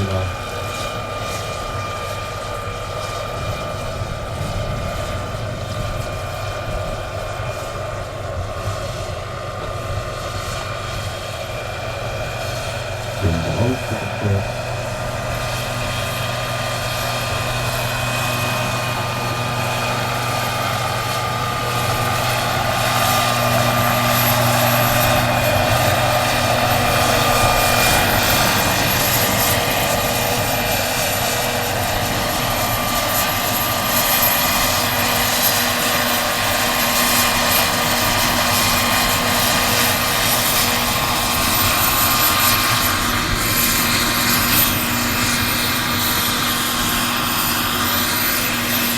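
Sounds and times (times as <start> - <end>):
helicopter rotor rushing: 0.0 - 48.9
high-pitched turbine whine: 0.0 - 48.9.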